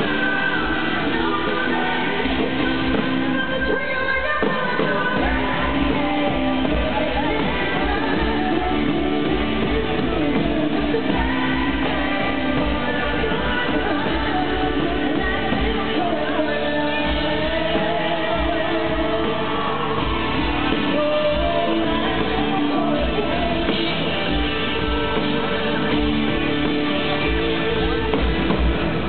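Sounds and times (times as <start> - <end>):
woman singing: 0.0 - 26.6, 27.2 - 28.8
drums: 0.0 - 29.0
electric guitar: 0.0 - 29.0
live rock band playing: 0.0 - 29.0.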